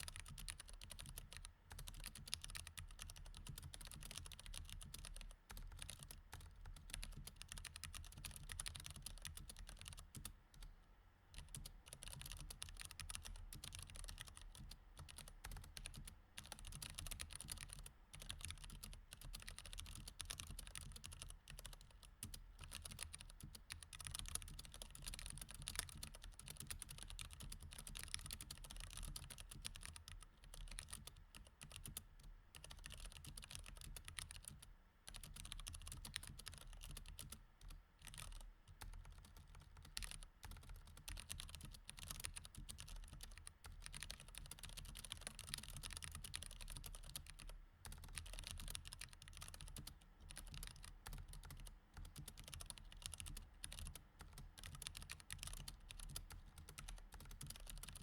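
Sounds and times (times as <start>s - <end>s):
mechanical keyboard typing: 0.0s - 10.7s, 11.4s - 32.0s, 32.6s - 58.0s.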